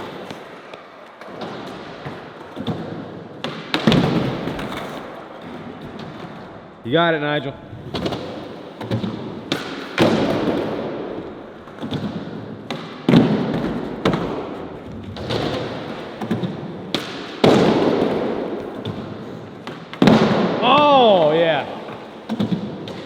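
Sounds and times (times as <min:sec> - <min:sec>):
skateboard wheels rolling on wood: 0:00.0 - 0:06.7, 0:07.6 - 0:23.0.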